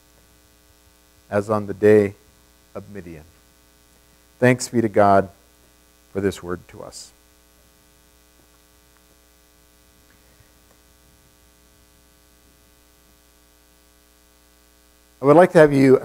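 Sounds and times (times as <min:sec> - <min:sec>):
faint mains hum: 0:00.0 - 0:16.0.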